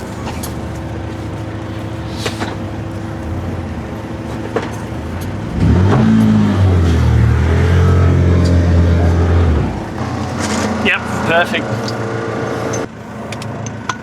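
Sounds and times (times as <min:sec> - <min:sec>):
large engine running: 0:00.0 - 0:14.0.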